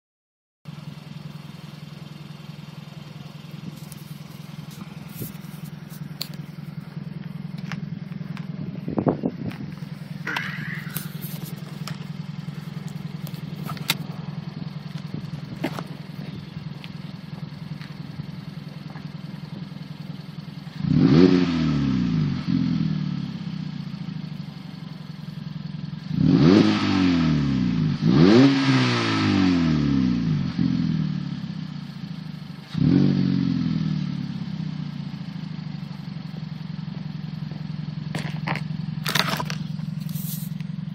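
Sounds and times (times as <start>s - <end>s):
car engine idling through exhaust: 0.7s - 28.4s, 29.6s - 40.9s.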